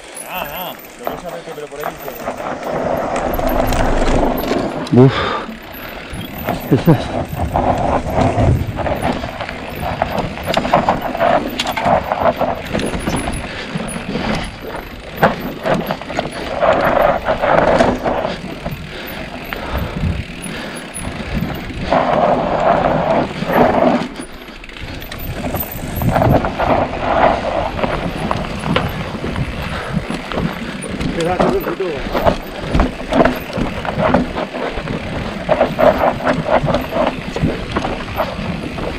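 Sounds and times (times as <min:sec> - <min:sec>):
bike rattling and knocking: 0:00.0 - 0:38.9
tyres sliding over loose dirt: 0:00.0 - 0:38.9.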